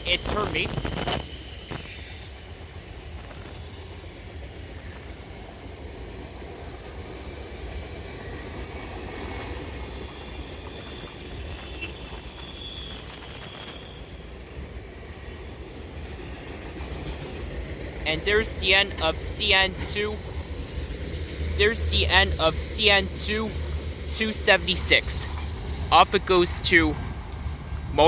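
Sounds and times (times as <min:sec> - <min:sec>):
high-pitched wheel squeal: 0:00.0 - 0:17.4, 0:18.1 - 0:25.9
freight cars rolling on rails: 0:00.0 - 0:28.0.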